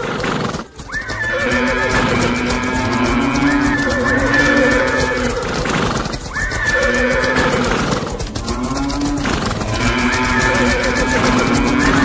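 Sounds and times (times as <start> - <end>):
horses neighing: 0.0 - 12.0
music: 0.0 - 12.0
rapid clattering hoofbeats: 0.0 - 12.0.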